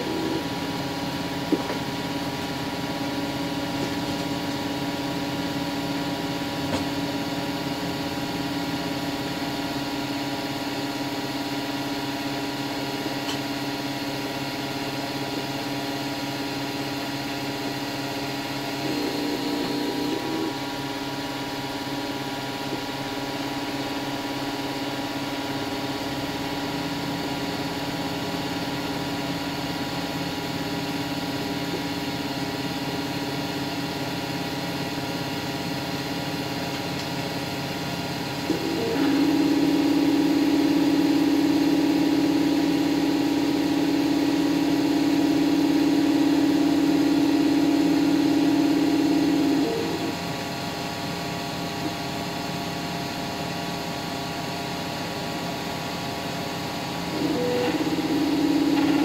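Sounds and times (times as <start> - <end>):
stepper motor whine: 0.0 - 27.6, 35.5 - 53.2, 54.6 - 59.0
printer fans humming: 0.0 - 59.0.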